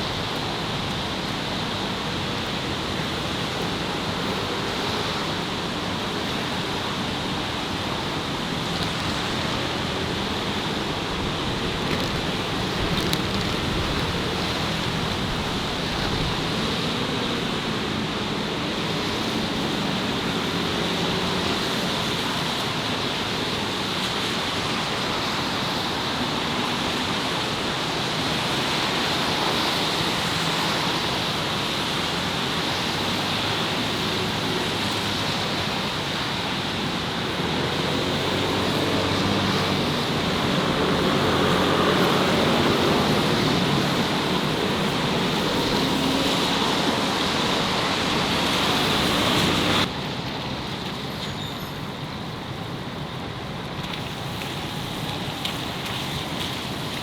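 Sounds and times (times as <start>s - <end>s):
road traffic roar: 0.0s - 57.0s.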